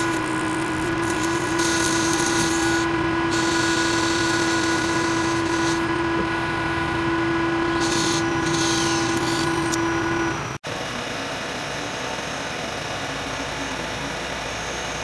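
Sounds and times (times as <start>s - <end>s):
lathe motor whine: 0.0s - 15.0s.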